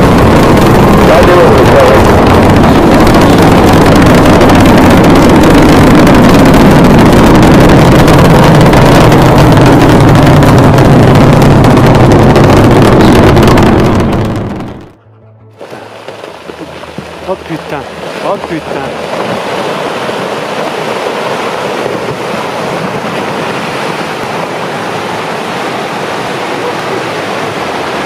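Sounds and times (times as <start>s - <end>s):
rocket engine roar: 0.0s - 28.0s.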